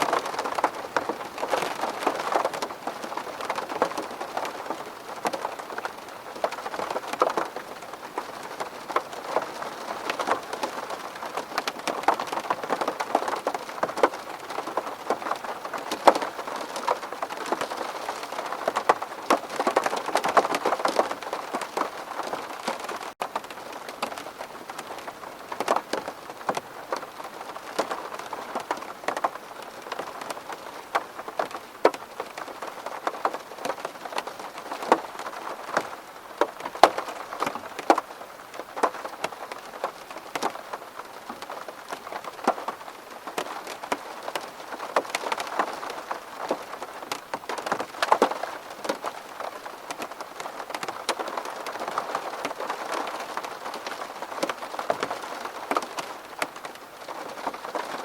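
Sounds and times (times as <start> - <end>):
rain on a window pane: 0.0 - 58.0.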